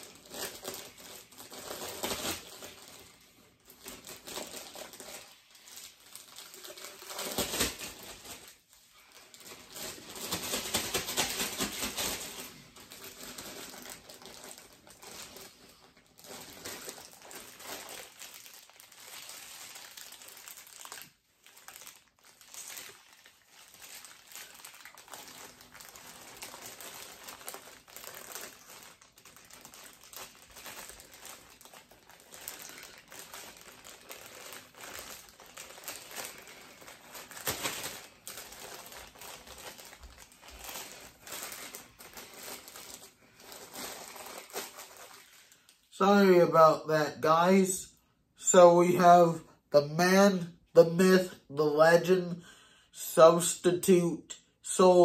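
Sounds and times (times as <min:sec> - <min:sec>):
packaging crinkling: 0:00.0 - 0:45.9.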